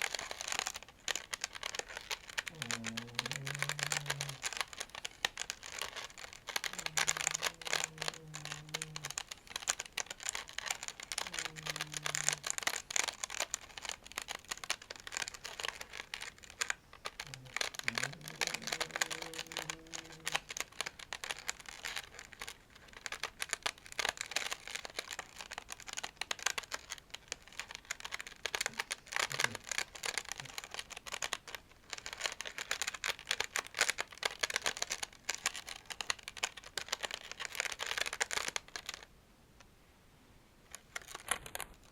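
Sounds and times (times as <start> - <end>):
toy plate being scratched: 0.0 - 39.0.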